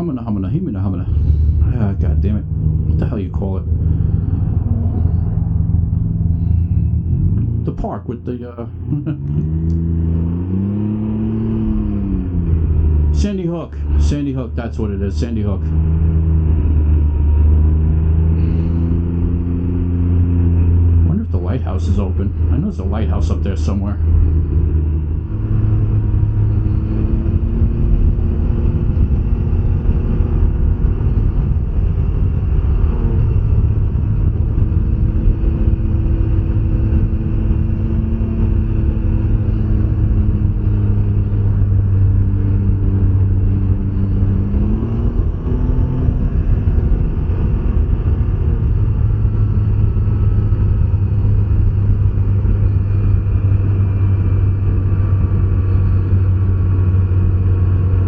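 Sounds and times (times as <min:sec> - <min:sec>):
wind and road noise: 0:00.0 - 0:58.0
three-wheeler engine running: 0:08.6 - 0:58.0.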